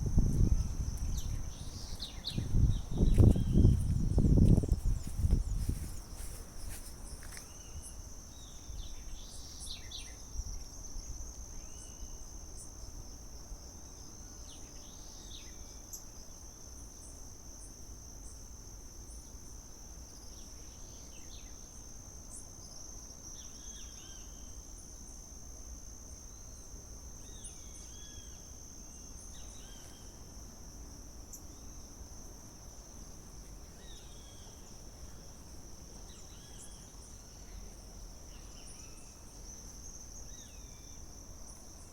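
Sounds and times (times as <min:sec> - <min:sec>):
insects droning high-pitched: 0:00.0 - 0:41.9.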